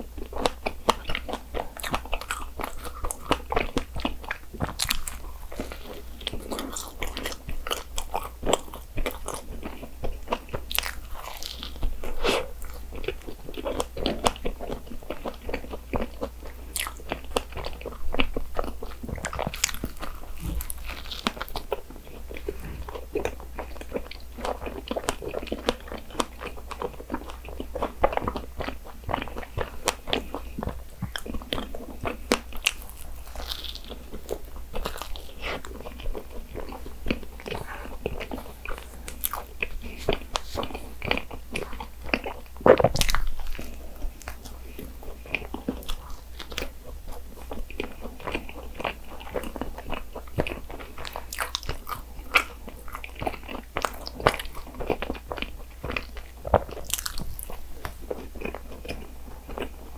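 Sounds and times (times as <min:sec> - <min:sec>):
wet crackly chewing: 0:00.0 - 0:59.9.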